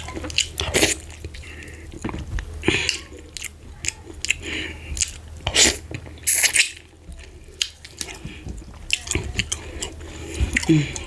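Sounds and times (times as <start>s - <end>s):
faint low hum: 0.0s - 11.0s
wet chewing and smacking: 0.0s - 11.0s.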